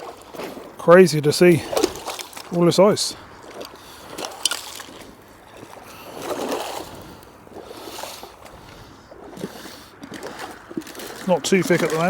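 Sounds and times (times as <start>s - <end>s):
footsteps splashing in water: 0.0s - 12.0s
boots crunching through ice: 1.4s - 12.0s.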